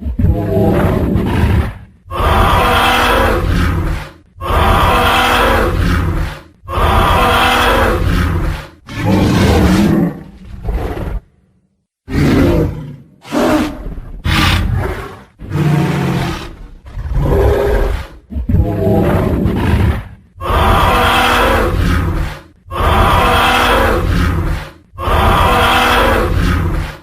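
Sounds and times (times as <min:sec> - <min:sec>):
dinosaur roars and growls: 0:00.0 - 0:11.4, 0:12.1 - 0:27.0.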